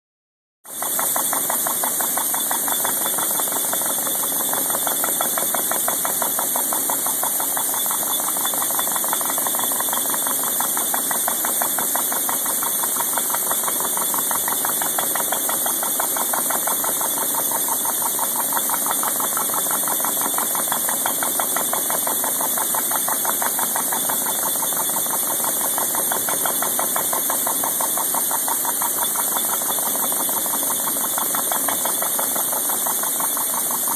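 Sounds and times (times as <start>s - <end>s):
milling machine cutter chattering: 1.0s - 33.9s.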